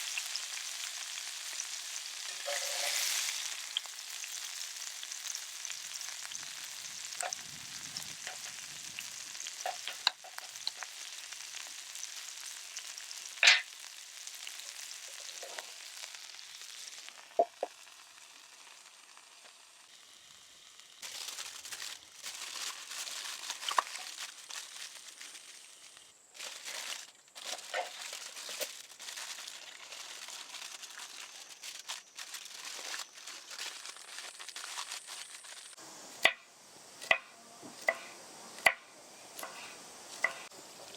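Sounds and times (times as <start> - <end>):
food sizzling in a skillet: 0.0 - 36.4, 37.0 - 40.9.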